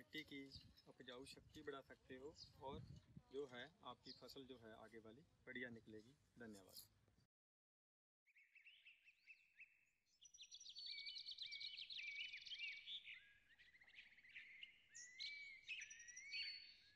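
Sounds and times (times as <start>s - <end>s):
songbirds chirping and singing: 0.0s - 6.9s, 8.3s - 16.9s.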